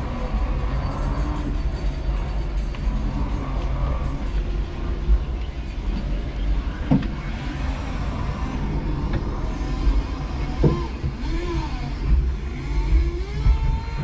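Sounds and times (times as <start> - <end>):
electric forklift running: 0.0 - 14.0
motor whine: 0.0 - 14.0.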